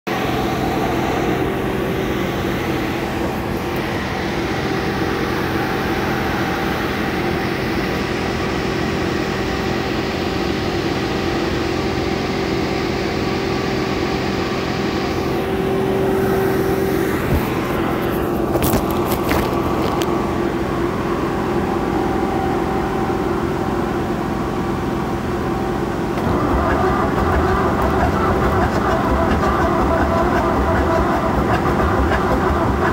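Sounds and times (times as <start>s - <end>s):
tractor engine running: 0.1s - 32.9s.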